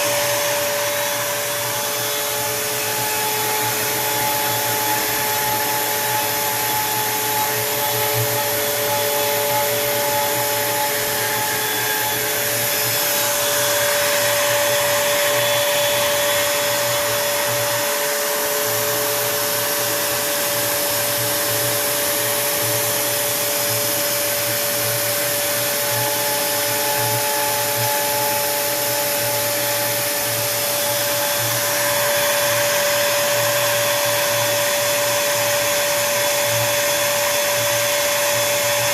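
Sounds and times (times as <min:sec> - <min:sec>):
bit cutting wood: 0:00.0 - 0:36.2
router spindle whining: 0:00.0 - 0:38.9.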